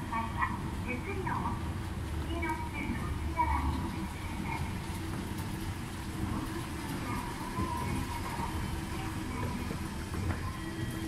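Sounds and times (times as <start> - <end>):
escalator rumbling: 0.0 - 11.0.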